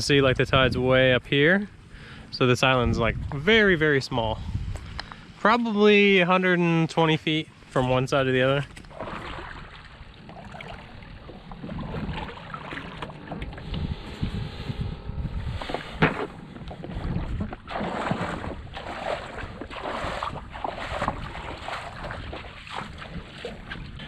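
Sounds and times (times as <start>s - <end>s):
wind buffeting microphone: 0.0s - 1.2s, 1.8s - 5.4s, 8.7s - 24.0s.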